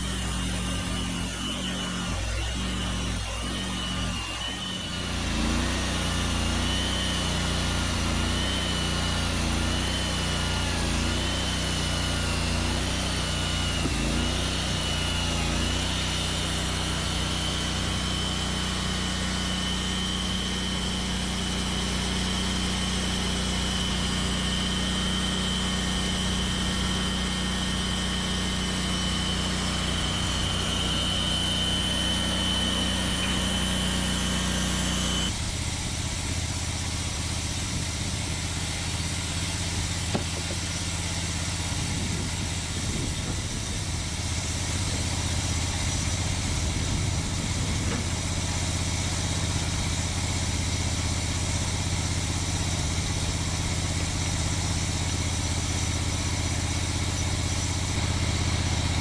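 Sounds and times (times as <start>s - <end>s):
sawmill engine whining: 0.0s - 59.0s.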